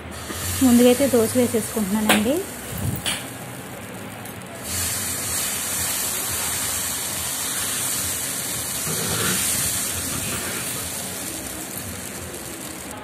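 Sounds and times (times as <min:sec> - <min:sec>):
batter sizzling on hot pan: 0:00.0 - 0:13.0.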